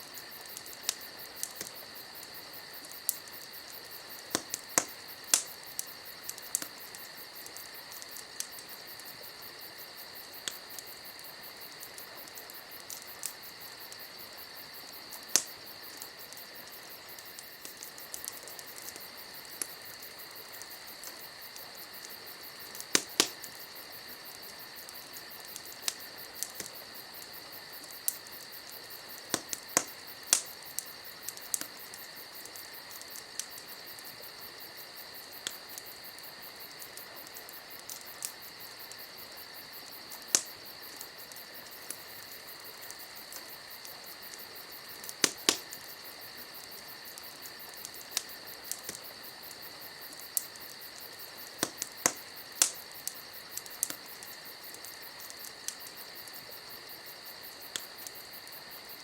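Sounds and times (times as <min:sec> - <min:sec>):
campfire crackling and popping: 0:00.0 - 0:59.0
insects chirping: 0:00.0 - 0:59.0.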